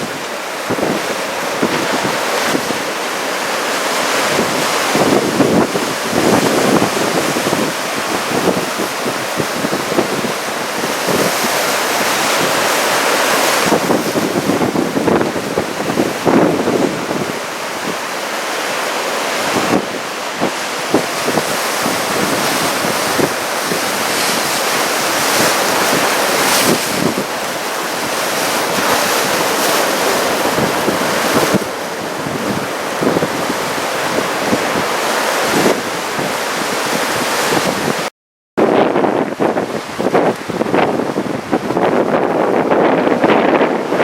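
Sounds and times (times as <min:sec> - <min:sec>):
wind buffeting microphone: 0:00.0 - 0:03.0, 0:03.7 - 0:18.7, 0:19.3 - 0:44.0
heavy surf breaking: 0:00.0 - 0:44.0.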